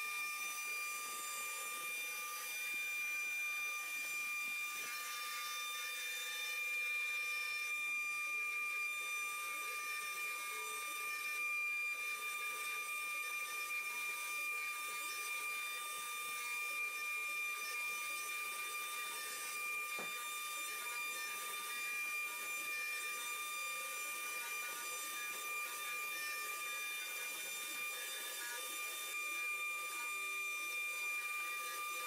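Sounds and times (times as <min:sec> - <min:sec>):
router spindle whine: 0:00.0 - 0:32.0.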